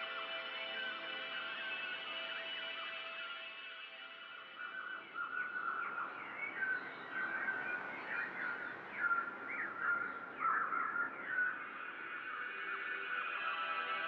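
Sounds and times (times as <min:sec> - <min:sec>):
songbirds chirping and twittering: 0:00.0 - 0:14.0.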